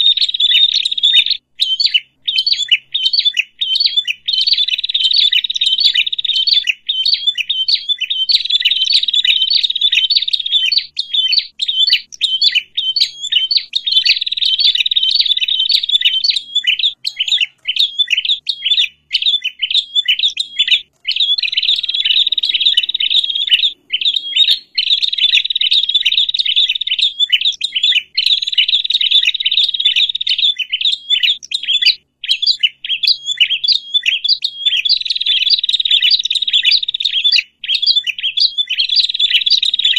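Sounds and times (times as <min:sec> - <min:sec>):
small songbirds chattering: 0:00.0 - 0:39.9.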